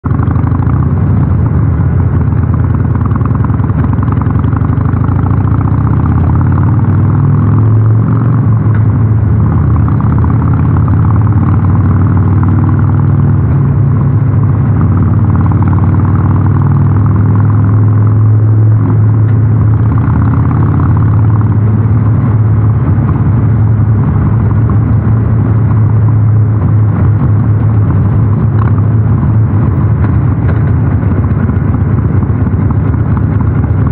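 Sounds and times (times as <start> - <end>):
motorcycle engine in a tunnel: 0.0 - 33.9.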